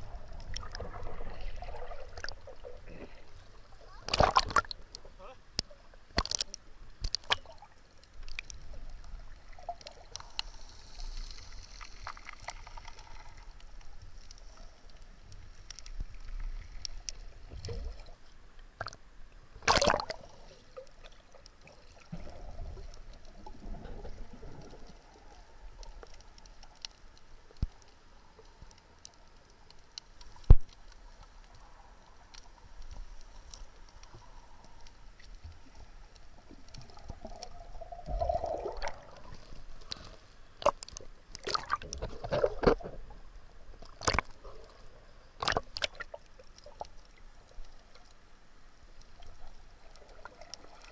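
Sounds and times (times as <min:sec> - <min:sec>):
muffled underwater sloshing: 0:00.0 - 0:18.9, 0:19.5 - 0:50.9.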